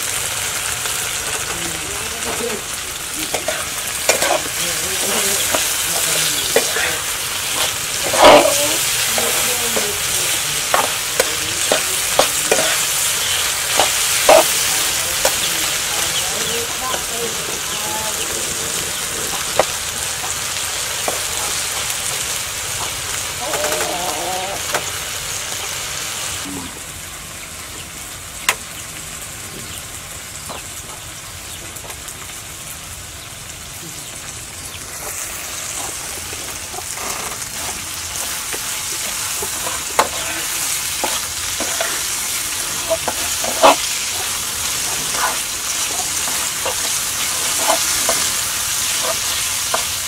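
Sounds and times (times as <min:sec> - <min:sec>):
insects sizzling in hot oil: 0:00.0 - 0:50.0.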